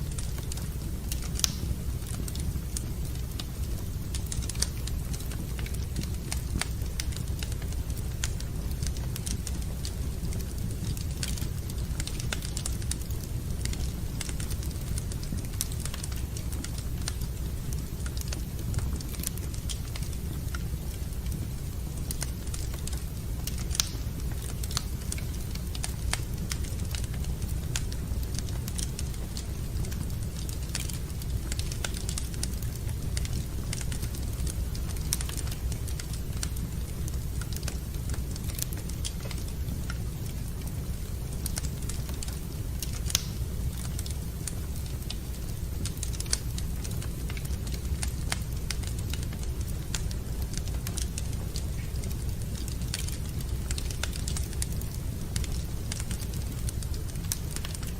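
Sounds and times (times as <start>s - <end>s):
low fire rumble: 0.0s - 57.9s
wood fire crackling and popping: 0.0s - 57.9s.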